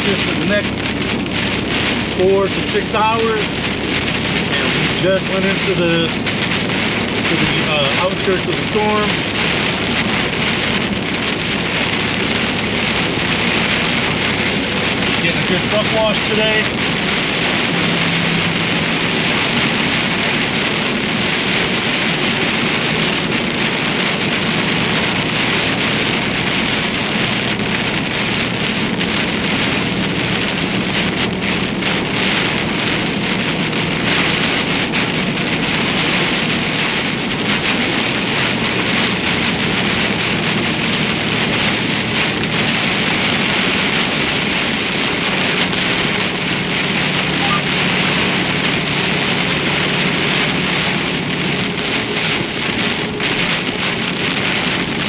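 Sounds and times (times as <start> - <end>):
heavy rain on truck: 0.0 - 55.0
truck engine drone: 0.0 - 55.0.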